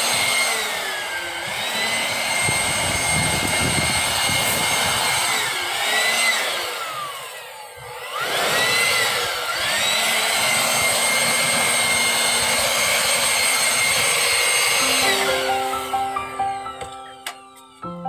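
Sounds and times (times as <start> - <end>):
leaf blower whining: 0.0 - 18.0.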